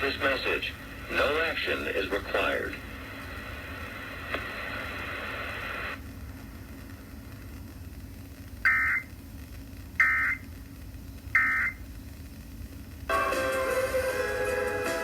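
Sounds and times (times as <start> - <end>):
radio hiss: 0.0 - 13.6.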